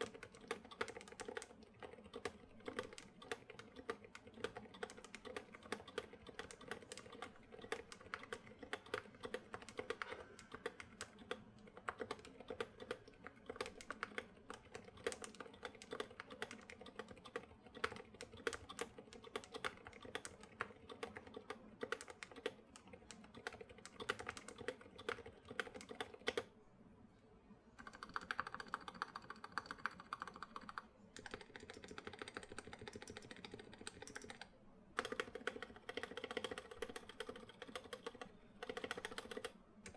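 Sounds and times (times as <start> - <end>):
typing on mechanical keyboard: 0.0 - 26.5, 27.8 - 39.9.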